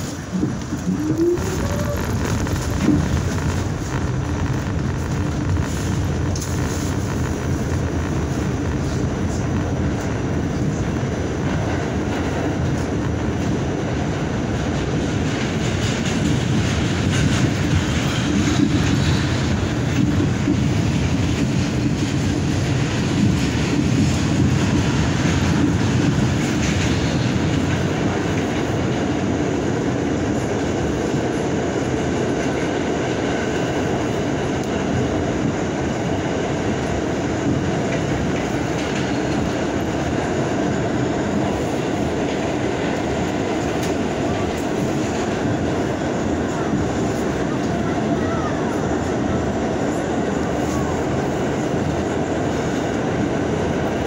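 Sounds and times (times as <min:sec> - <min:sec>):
subway wheels rumbling on rail: 0:00.0 - 0:54.0.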